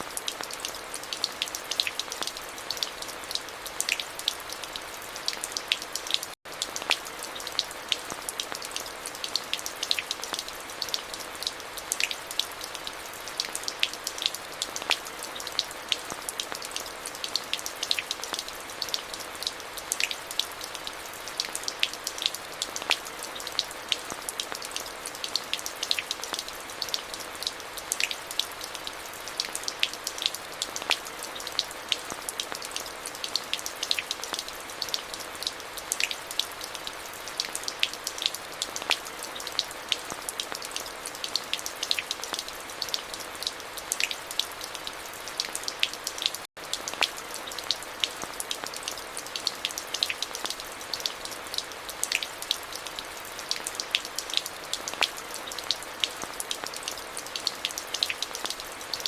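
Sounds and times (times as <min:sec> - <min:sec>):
rain drops on hard surfaces: 0:00.0 - 0:59.0.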